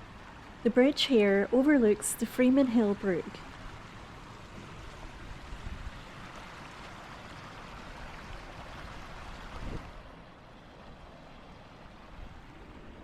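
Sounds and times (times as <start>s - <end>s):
brook water rushing: 0.0s - 13.0s.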